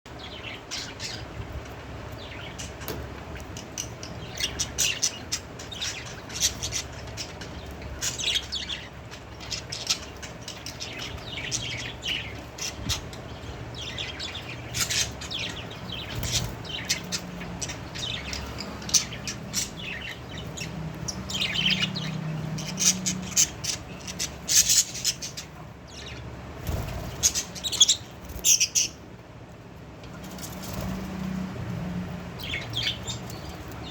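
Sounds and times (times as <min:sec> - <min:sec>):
budgerigars chirping: 0:00.2 - 0:29.2, 0:32.3 - 0:33.9.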